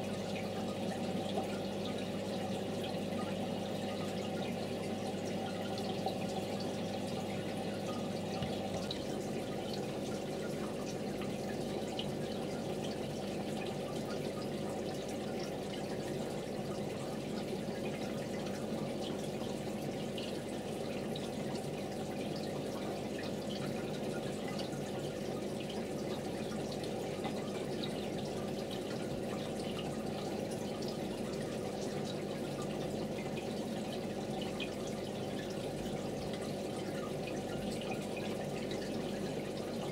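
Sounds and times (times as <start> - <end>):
aquarium water trickling and dripping: 0.0 - 39.9.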